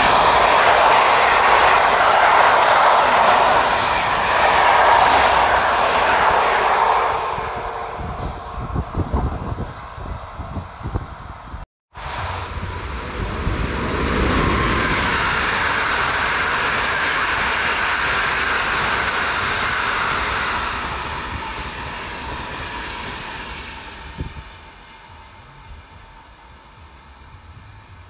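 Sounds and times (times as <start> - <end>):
train passing on rails: 0.0 - 28.0.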